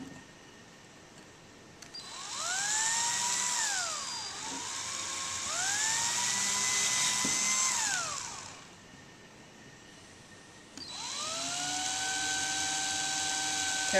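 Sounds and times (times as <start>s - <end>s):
cordless drill whine: 1.8s - 9.2s, 9.8s - 13.9s.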